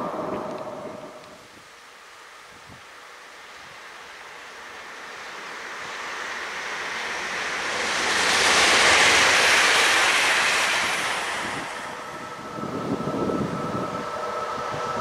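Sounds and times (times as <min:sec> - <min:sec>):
train passing at speed: 0:00.0 - 0:01.4, 0:03.4 - 0:15.0.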